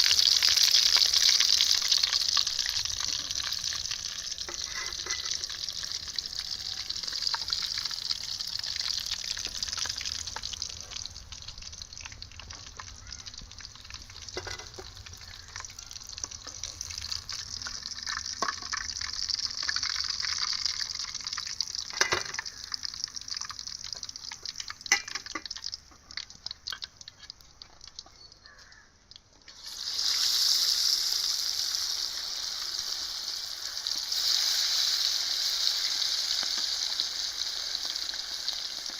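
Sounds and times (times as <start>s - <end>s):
quail sizzling in a pan: 0.0s - 38.9s.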